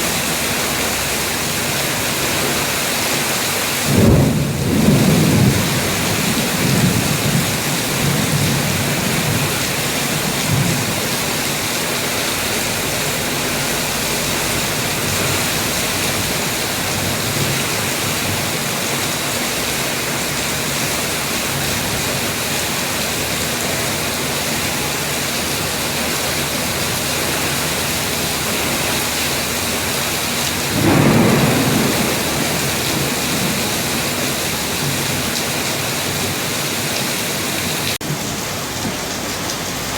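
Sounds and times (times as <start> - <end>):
low thunder rumbling: 0.0 - 38.3
heavy rain pouring: 0.0 - 39.9.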